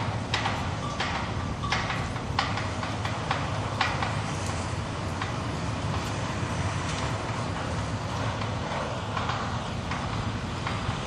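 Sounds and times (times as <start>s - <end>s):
crane diesel engine rumbling: 0.0s - 11.0s.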